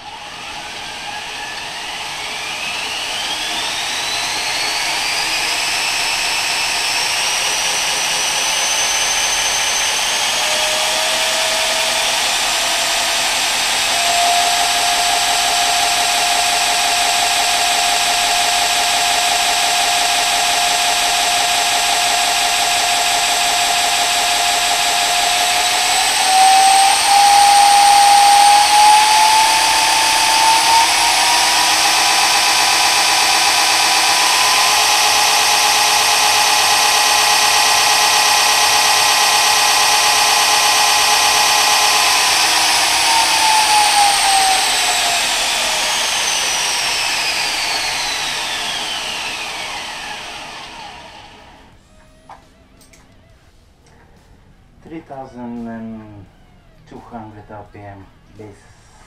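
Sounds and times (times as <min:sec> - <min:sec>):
belt grinder motor whine: 0:00.0 - 0:53.0.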